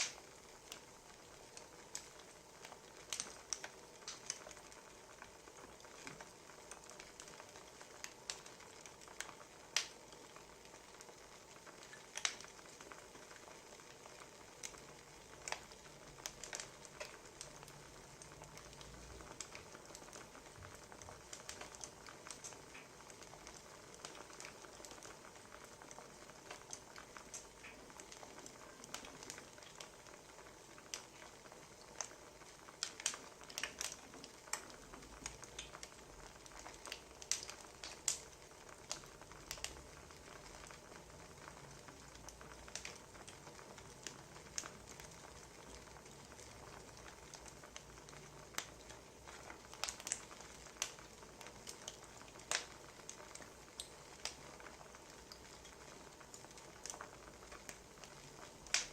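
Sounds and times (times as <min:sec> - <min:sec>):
soft steady hiss: 0:00.0 - 0:58.9
wood fire crackling and popping: 0:00.0 - 0:58.9.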